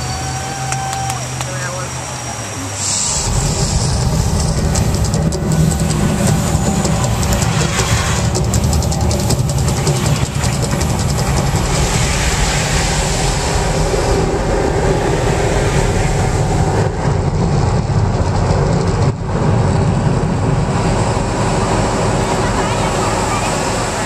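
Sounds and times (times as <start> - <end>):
loud low rumble with hiss: 0.0 - 24.0.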